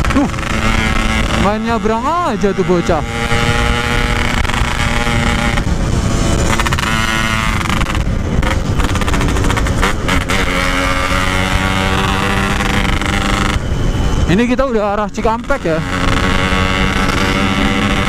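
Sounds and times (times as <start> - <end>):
two-stroke motorcycle engine: 0.0 - 18.0.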